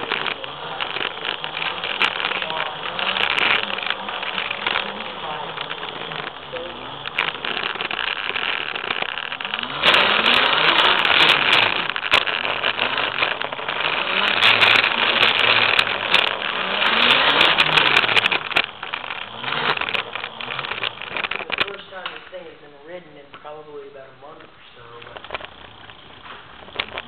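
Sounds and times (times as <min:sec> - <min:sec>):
electric scooter motor rushing: 0:00.0 - 0:27.0
motor whine: 0:00.0 - 0:27.0
rattles and clicks: 0:00.0 - 0:27.0.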